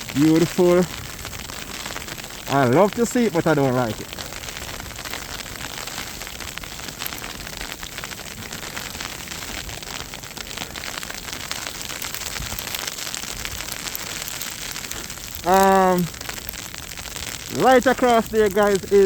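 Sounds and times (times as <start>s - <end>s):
snow pattering and hissing: 0.0s - 19.0s.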